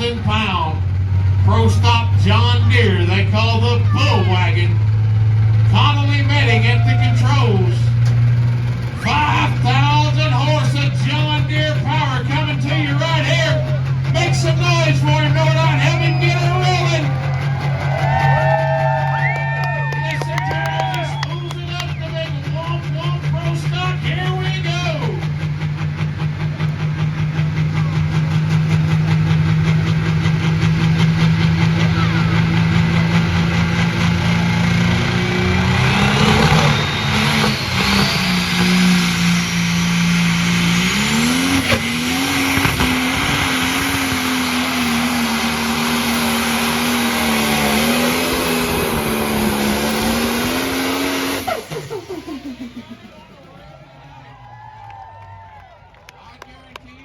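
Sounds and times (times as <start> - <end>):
tractor diesel engine revving hard: 0.0 - 56.0.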